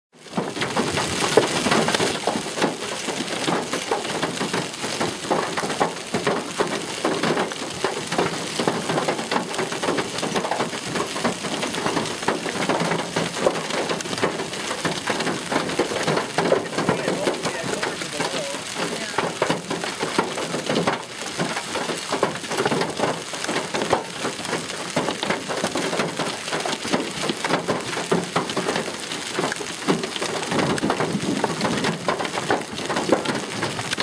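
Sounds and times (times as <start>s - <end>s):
hailstones clattering: 0.2s - 34.0s.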